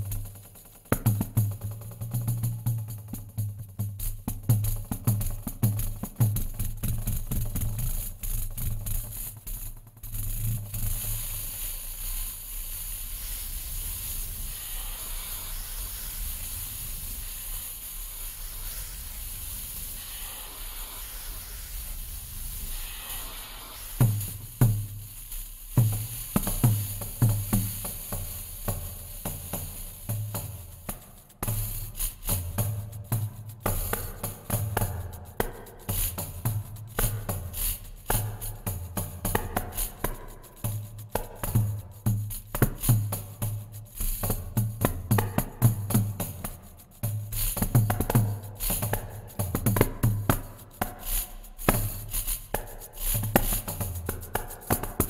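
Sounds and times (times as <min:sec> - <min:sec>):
processed hissing wash: 0:00.0 - 0:55.0.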